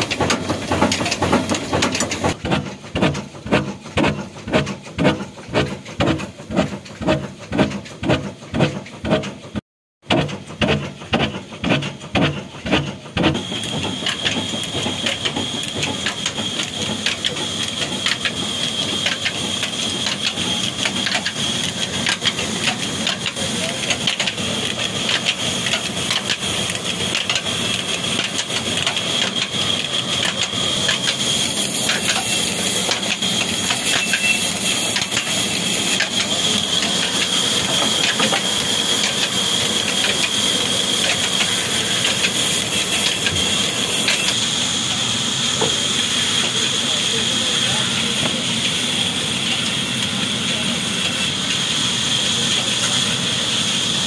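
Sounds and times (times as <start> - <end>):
diesel engine running: 0.0 - 54.0
engine exhaust beats: 0.0 - 54.0
mechanical clatter with whine: 0.0 - 54.0.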